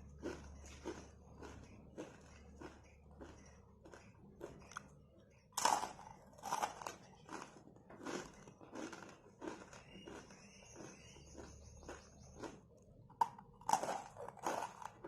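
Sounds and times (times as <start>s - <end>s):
crunchy snack being chewed: 0.0s - 5.0s, 5.6s - 15.0s.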